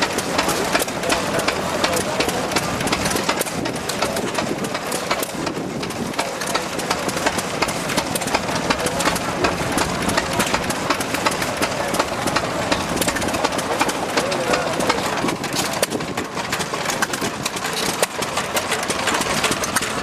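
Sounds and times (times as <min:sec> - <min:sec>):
stationary engines clattering: 0:00.0 - 0:20.0.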